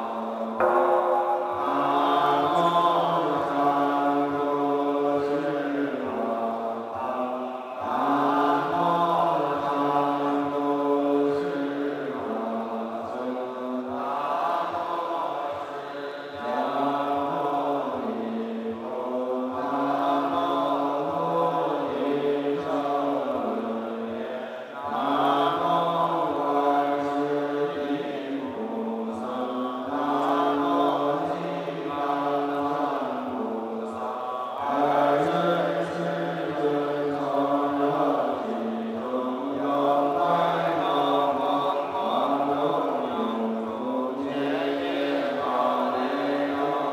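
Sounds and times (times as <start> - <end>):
monks chanting: 0.0 - 46.9.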